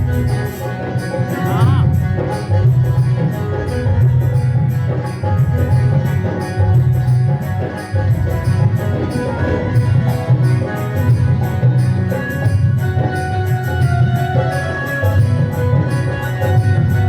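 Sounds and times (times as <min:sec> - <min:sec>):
hand drum beats: 0:00.0 - 0:17.0
jingling percussion: 0:00.0 - 0:17.0.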